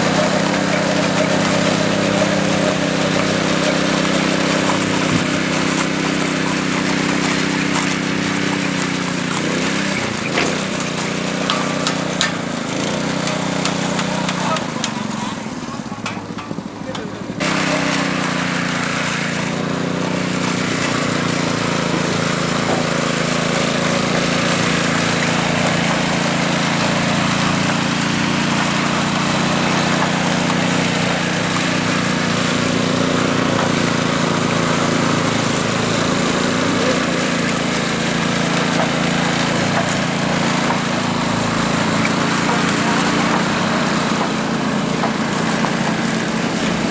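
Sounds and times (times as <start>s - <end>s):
small engine running steadily: 0.0s - 46.9s.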